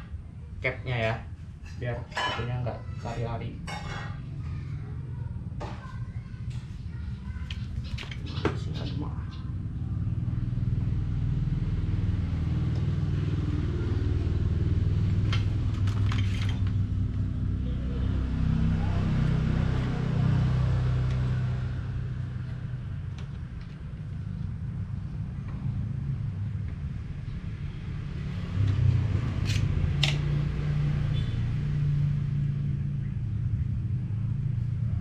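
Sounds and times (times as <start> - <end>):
engine rumbling: 0.0 - 35.0.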